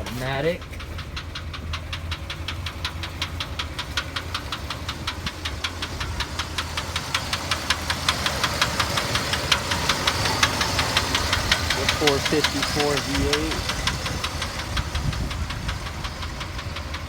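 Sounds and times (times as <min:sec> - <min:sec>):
engine idling with regular knock: 0:00.0 - 0:17.0.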